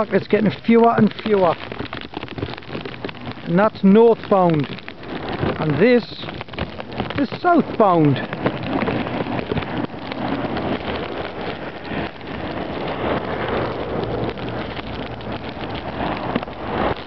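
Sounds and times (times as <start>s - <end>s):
wet snow pattering: 0.0s - 17.0s.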